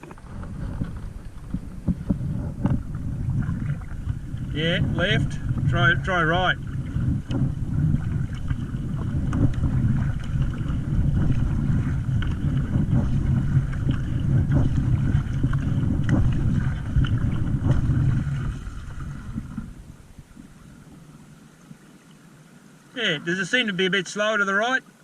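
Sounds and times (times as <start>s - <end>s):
wind buffeting microphone: 0.0s - 21.8s.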